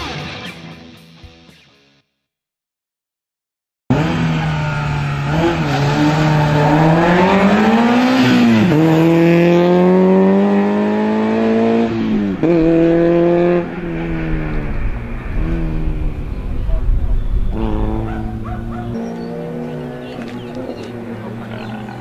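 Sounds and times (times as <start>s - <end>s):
race car engine revving: 3.9s - 22.0s.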